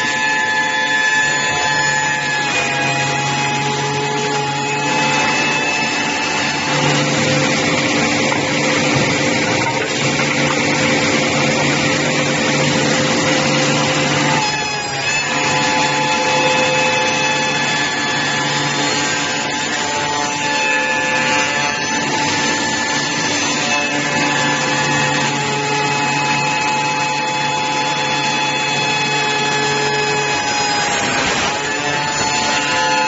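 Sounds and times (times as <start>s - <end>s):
milling machine whining: 0.0s - 33.0s.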